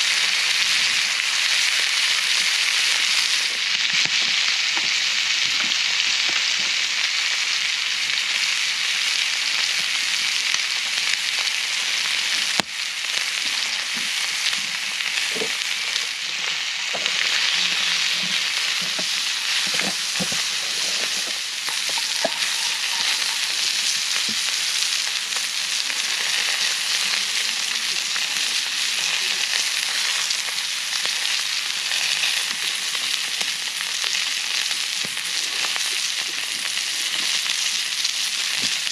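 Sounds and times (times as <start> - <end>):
meat sizzling in a skillet: 0.0 - 38.9.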